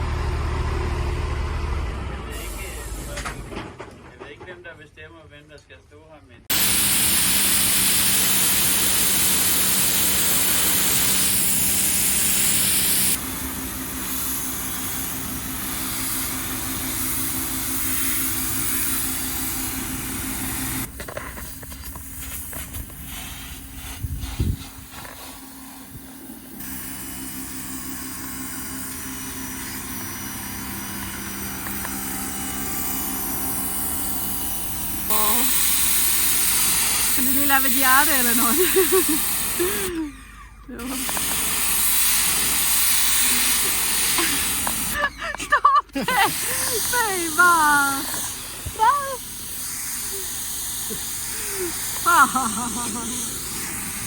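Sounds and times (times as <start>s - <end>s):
motor running with hiss: 6.5s - 54.0s.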